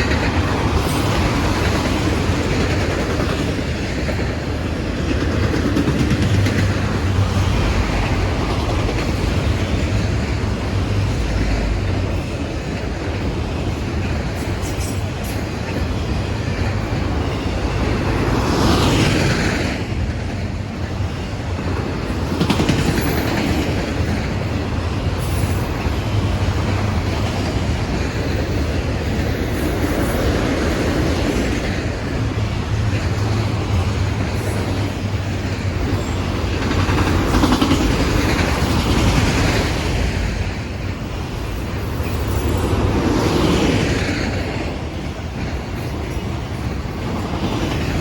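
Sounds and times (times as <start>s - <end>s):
freight train wheels on rails: 0.0s - 48.0s.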